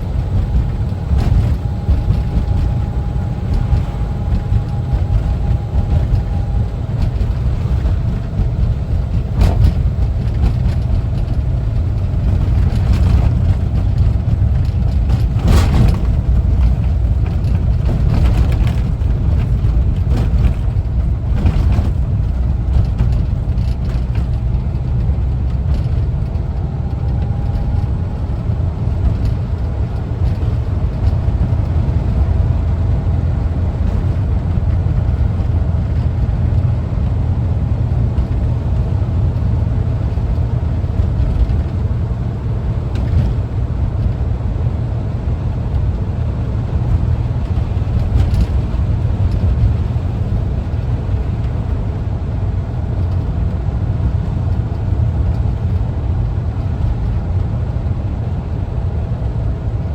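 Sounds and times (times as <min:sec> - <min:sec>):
van engine rumbling: 0:00.0 - 0:59.9.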